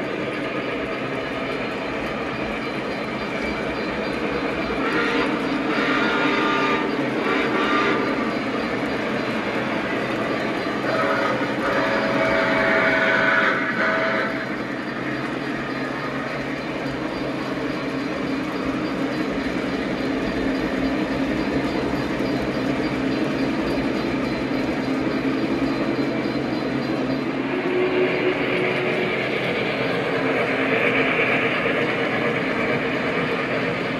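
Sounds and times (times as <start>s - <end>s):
model train rumbling on track: 0.0s - 33.9s.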